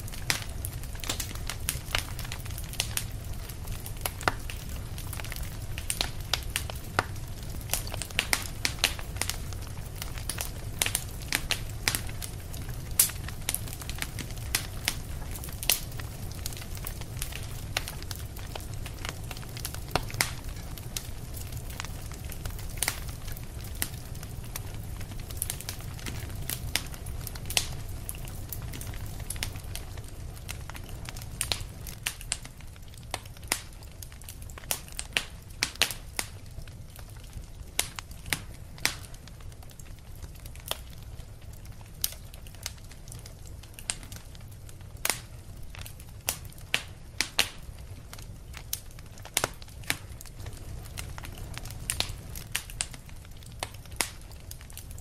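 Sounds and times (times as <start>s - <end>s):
low rumble of flames: 0.0s - 55.0s
wood fire popping: 0.0s - 55.0s.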